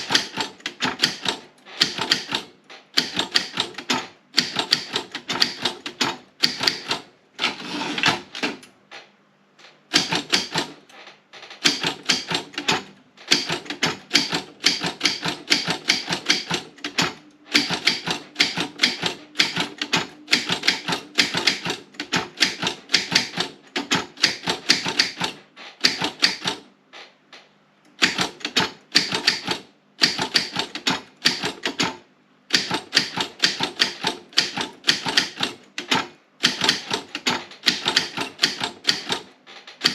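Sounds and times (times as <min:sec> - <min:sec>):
typewriter key clacks: 0:00.0 - 0:07.1, 0:09.9 - 0:10.8, 0:11.6 - 0:26.7, 0:28.0 - 0:39.9.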